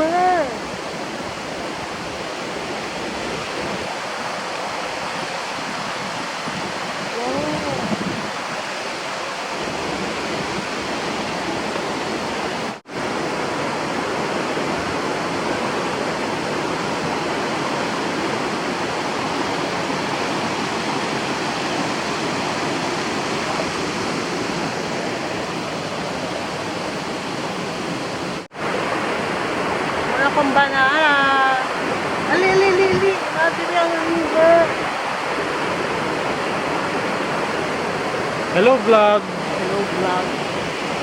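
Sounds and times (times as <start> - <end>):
water rushing over rocks: 0.0 - 41.0.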